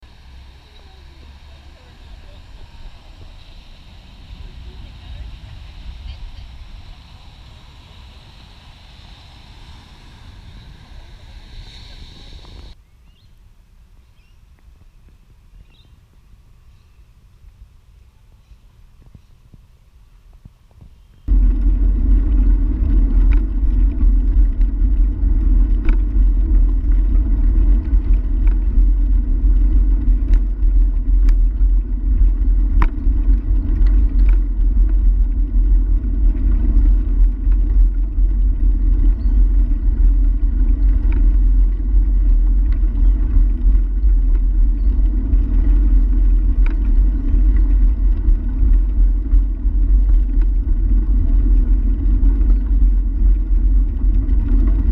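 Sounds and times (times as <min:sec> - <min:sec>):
bicycle road rumble: 0:00.0 - 0:54.9
wind: 0:00.0 - 0:54.9.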